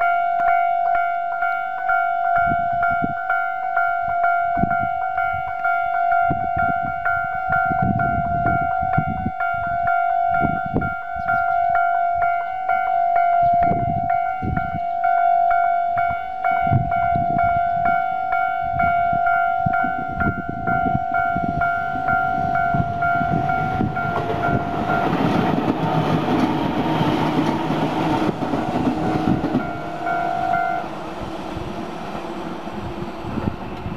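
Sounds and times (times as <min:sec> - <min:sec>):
level-crossing alarm ringing: 0:00.0 - 0:32.9
train passing with rushing rumble: 0:00.0 - 0:33.9
wind buffeting microphone: 0:02.2 - 0:33.9.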